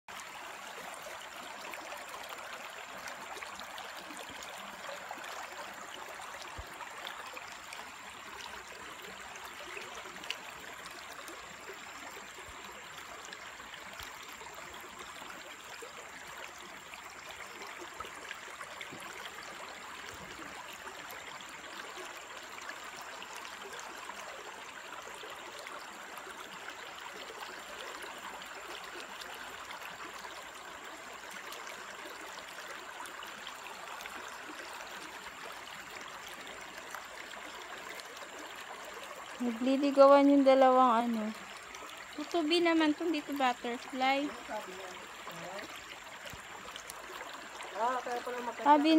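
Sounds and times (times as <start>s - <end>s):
stream rushing over rocks: 0.1s - 48.9s.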